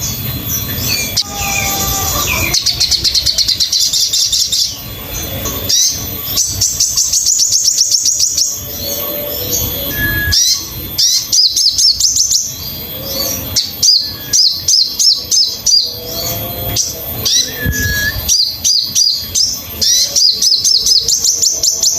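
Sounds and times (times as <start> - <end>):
songbird chirping: 0.0 - 21.9.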